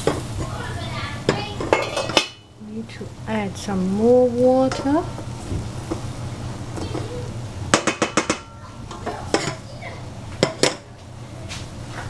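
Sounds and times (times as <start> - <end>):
wooden spoon stirring in saucepan: 0.0 - 12.0.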